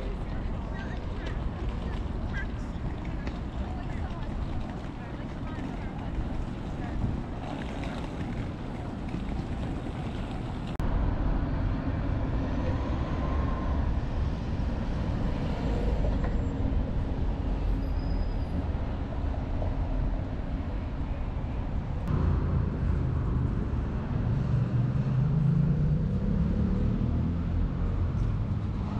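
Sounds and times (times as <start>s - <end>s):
rumble of traffic and trams: 0.0s - 28.9s.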